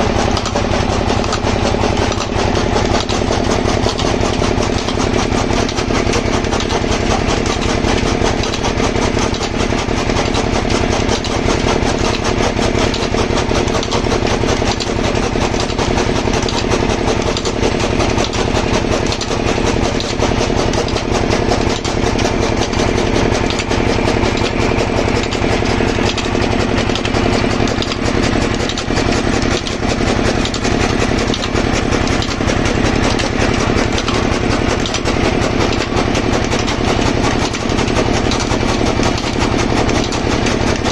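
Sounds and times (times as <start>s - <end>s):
pumpset engine running: 0.0s - 40.9s.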